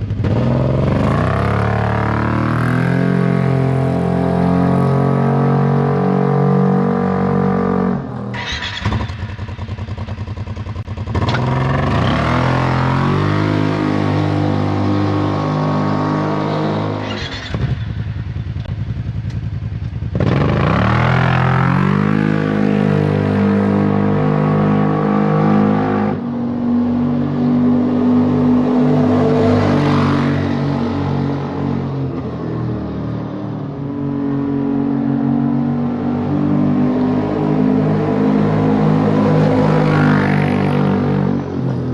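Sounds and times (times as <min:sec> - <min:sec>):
engine idling and revving: 0:00.0 - 0:41.9.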